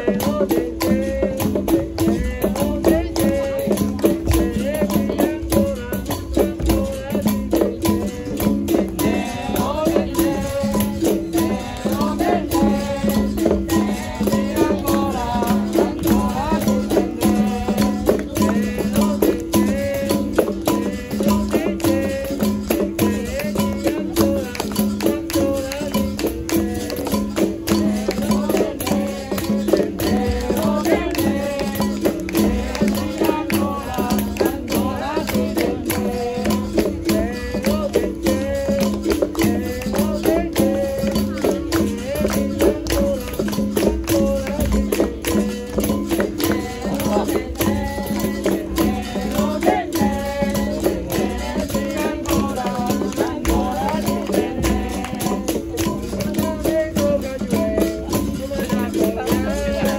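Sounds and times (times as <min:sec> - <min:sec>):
person singing: 0:00.0 - 0:59.9
shaker rattle: 0:00.0 - 0:59.9
tambourine jingles: 0:00.0 - 0:59.9.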